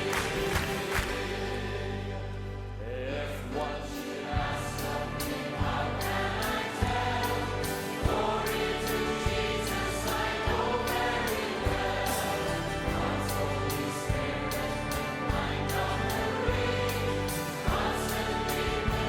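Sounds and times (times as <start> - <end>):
steady drum beat: 0.0 - 1.6, 4.4 - 19.0
bass: 0.0 - 19.0
gospel choir singing: 0.0 - 19.0.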